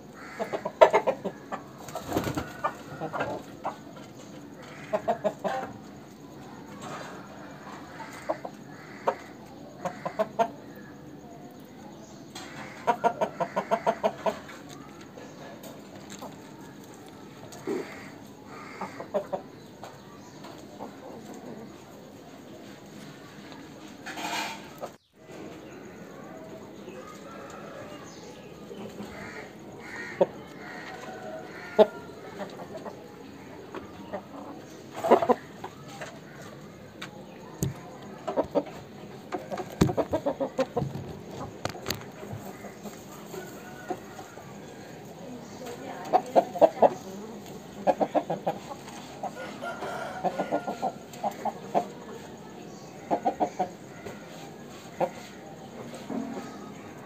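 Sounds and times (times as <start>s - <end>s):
chickens clucking softly: 0.0s - 57.0s.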